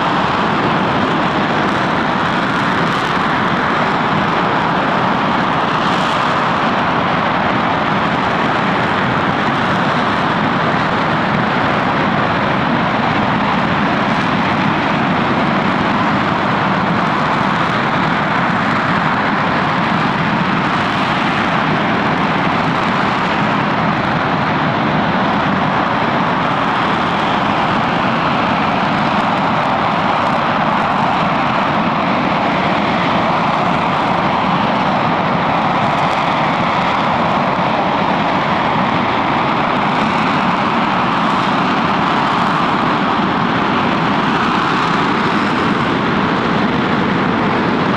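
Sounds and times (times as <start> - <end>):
rocket engine roaring: 0.0 - 47.9.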